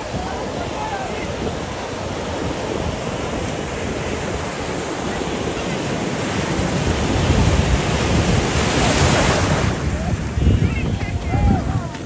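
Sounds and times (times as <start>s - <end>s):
sea surf breaking: 0.0s - 12.0s.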